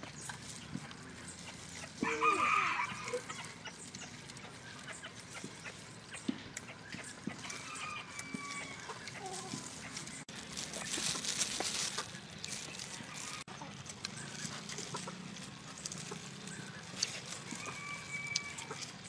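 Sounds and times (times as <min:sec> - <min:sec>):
chicken calling: 0:01.7 - 0:11.2, 0:12.9 - 0:19.0.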